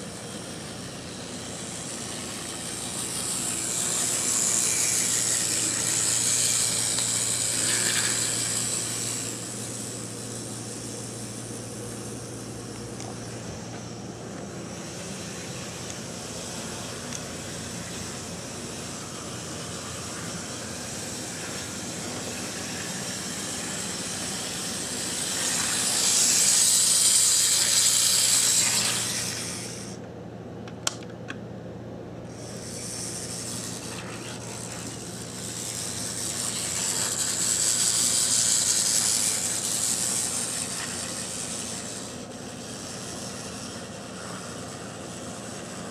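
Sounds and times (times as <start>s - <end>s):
high hiss: 0.0s - 30.0s, 32.3s - 45.9s
model train motor whirring: 0.0s - 30.0s, 32.2s - 45.9s.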